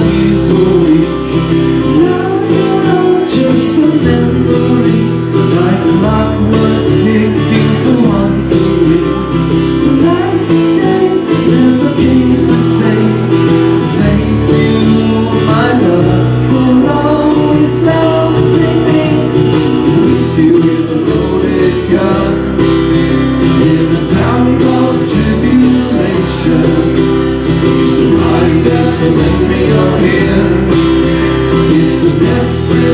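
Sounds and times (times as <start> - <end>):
keyboard: 0.0 - 32.9
live acoustic rock band: 0.0 - 32.9
person singing: 0.0 - 32.9
strummed acoustic guitars: 0.0 - 32.9.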